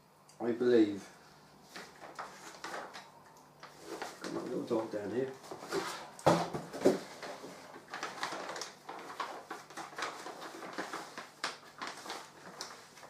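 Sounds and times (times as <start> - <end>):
packaging rustling and crinkling: 1.6 - 13.0.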